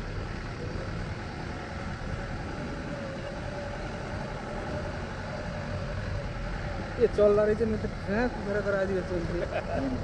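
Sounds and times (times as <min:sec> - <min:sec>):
road and wind noise: 0:00.0 - 0:10.0
vehicle engine running: 0:00.0 - 0:10.0.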